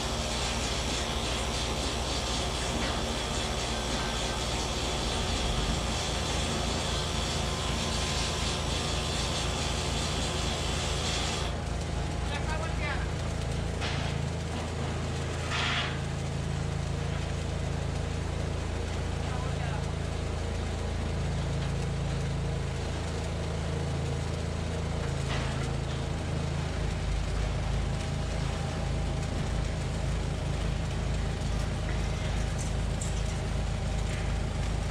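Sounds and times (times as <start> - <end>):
arc welding crackling hiss: 0.0 - 34.9
engine running steadily: 0.0 - 34.9.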